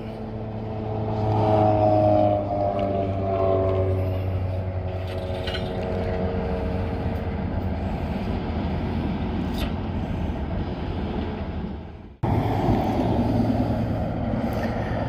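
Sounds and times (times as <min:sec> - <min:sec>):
road noise: 0:00.0 - 0:15.0
vehicle engine rumble: 0:00.0 - 0:15.0.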